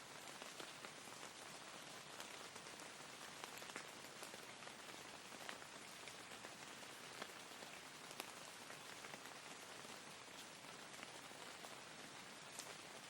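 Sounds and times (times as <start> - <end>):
faint steady rain: 0.0 - 13.0
raindrop ticks: 0.2 - 13.0.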